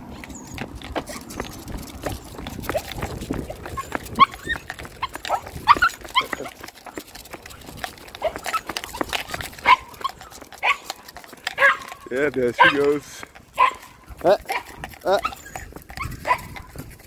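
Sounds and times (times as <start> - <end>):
dogs whining and yelping: 0.0 - 12.9, 13.5 - 17.0
clicking steps on brick paving: 0.0 - 17.0.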